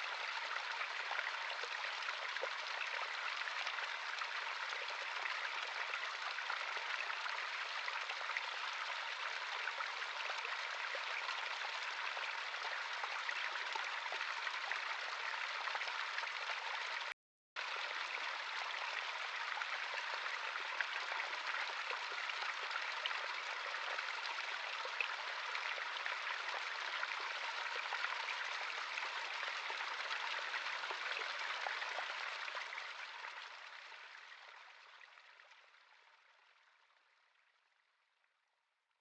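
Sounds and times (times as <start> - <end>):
stream of running water: 0.0 - 37.0.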